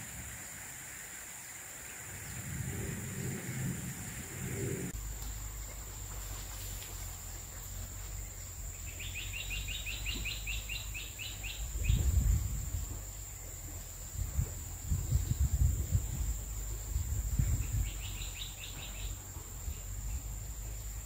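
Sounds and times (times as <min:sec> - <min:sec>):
low rumble: 0:02.3 - 0:21.0.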